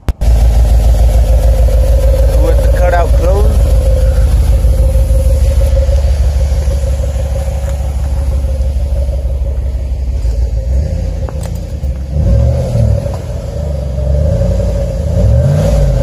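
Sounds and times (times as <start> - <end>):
engine revving: 0.0 - 16.0
truck exhaust idling: 0.0 - 16.0.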